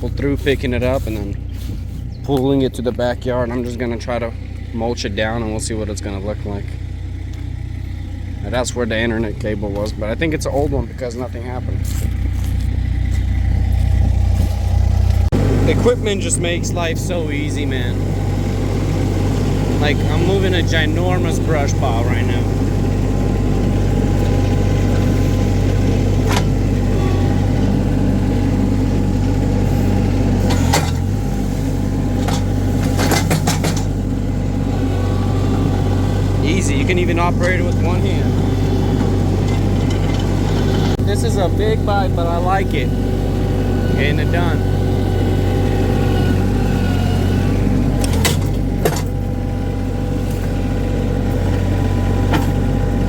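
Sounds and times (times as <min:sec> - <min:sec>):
small loader engine running: 0:00.0 - 0:53.0.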